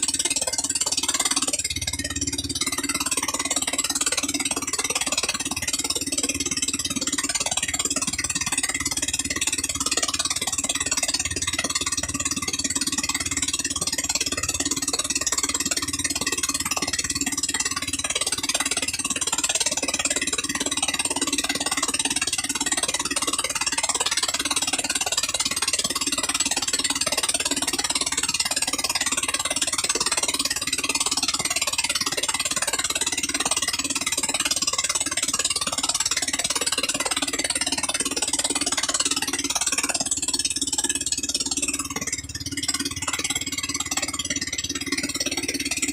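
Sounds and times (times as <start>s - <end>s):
gasoline engine running: 0.0s - 45.9s.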